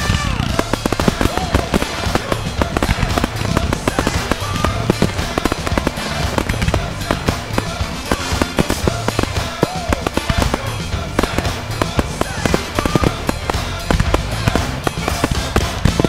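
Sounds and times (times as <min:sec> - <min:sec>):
fireworks bursting and crackling: 0:00.0 - 0:16.0
music: 0:00.0 - 0:16.0.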